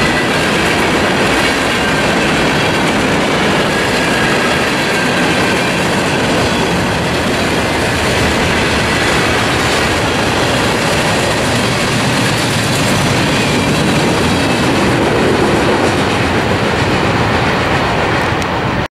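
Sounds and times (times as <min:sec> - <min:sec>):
train wheels rumbling and rattling: 0:00.0 - 0:18.9.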